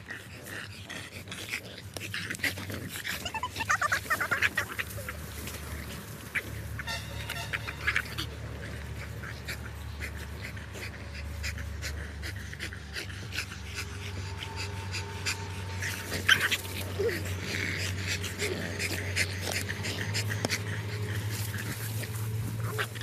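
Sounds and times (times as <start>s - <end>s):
dogs panting: 0.0s - 23.0s
dry leaves and sand crackling: 0.0s - 23.0s.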